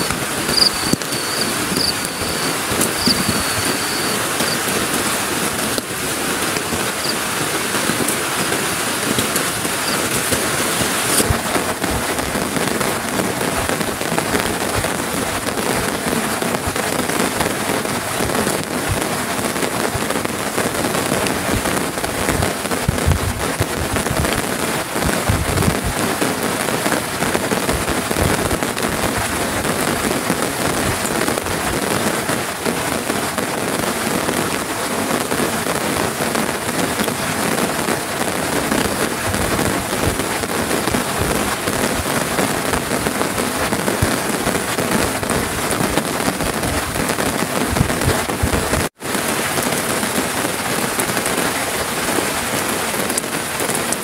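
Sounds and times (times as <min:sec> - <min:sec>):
heavy rain falling: 0:00.0 - 0:54.0
low thuds of raindrops: 0:00.0 - 0:54.0.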